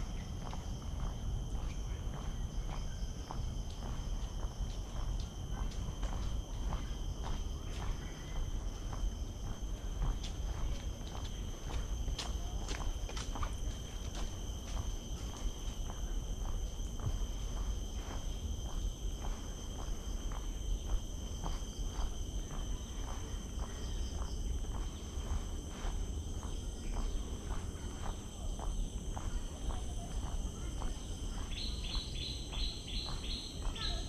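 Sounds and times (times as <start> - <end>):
footsteps on wooden boardwalk: 0.0 - 34.0
insects droning: 0.0 - 34.0.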